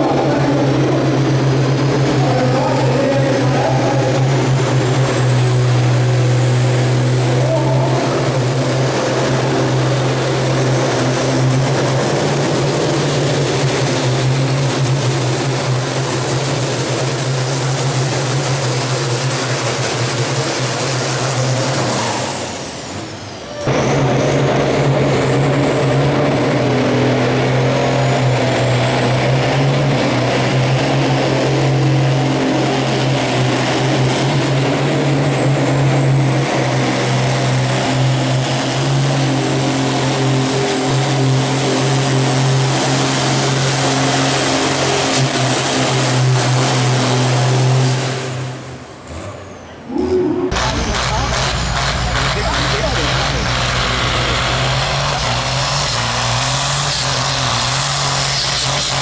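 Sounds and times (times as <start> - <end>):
tractor diesel engines under load: 0.0 - 59.0.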